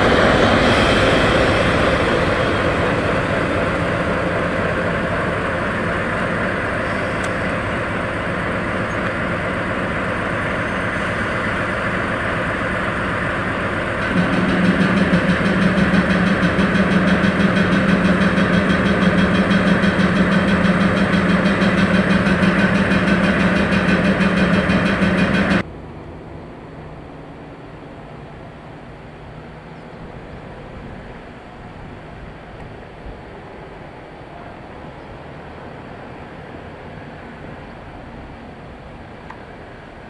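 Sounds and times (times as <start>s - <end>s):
diesel locomotive engine: 0.0s - 40.0s.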